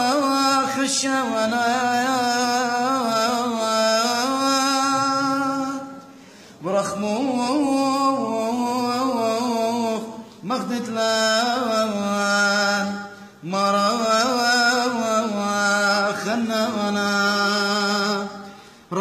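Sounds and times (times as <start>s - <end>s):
man chanting a hymn: 0.0s - 19.0s.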